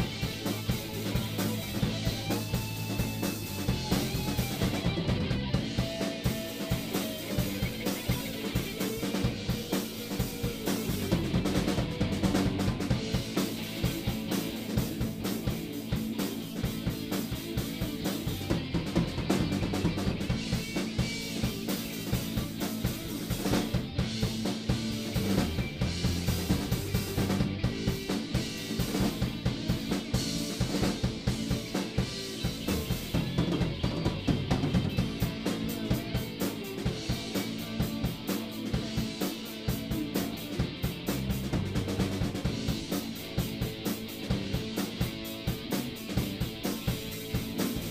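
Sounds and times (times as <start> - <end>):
drums hit steadily: 0.0 - 47.9
live rock band playing: 0.0 - 47.9.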